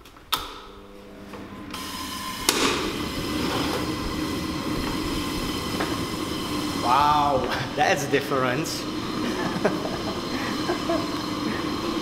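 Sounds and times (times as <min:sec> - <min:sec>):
heater fan and flame rushing: 0:00.8 - 0:12.0.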